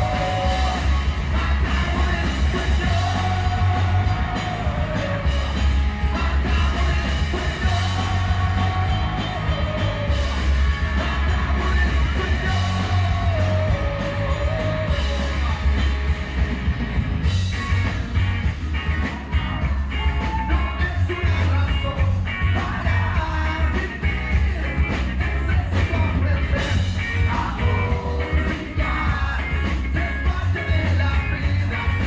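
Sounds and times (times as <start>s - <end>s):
person singing: 0.0s - 15.9s, 20.2s - 32.0s
live rock band playing: 0.0s - 32.0s.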